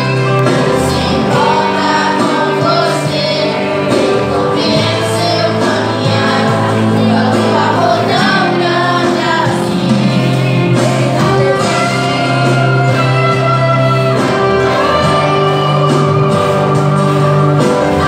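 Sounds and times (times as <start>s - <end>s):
acoustic guitar accompaniment: 0.0s - 18.0s
children singing into microphones: 0.0s - 18.0s.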